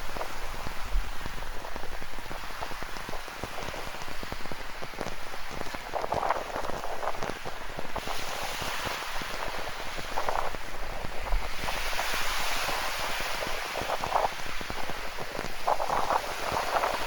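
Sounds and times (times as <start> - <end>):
ocean waves: 0.0 - 17.0.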